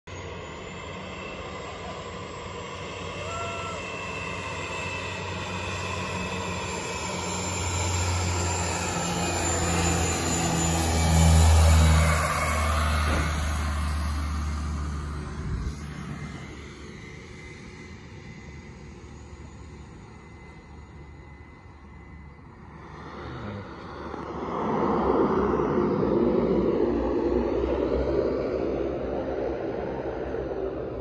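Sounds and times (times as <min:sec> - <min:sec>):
plane engine drone: 0:00.1 - 0:31.0.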